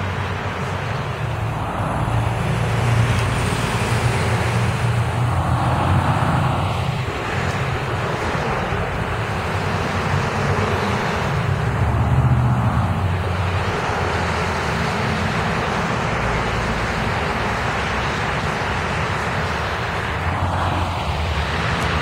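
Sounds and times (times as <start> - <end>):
cars and bus driving past: 0.0 - 22.0.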